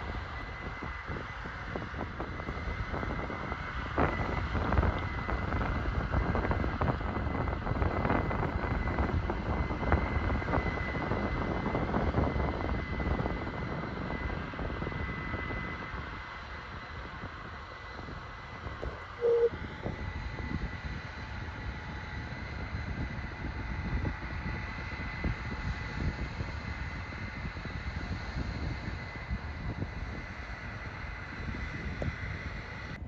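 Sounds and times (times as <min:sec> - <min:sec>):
distant combine harvester: 0:00.0 - 0:33.0
high whine: 0:00.0 - 0:33.0
wind buffeting microphone: 0:00.0 - 0:33.0.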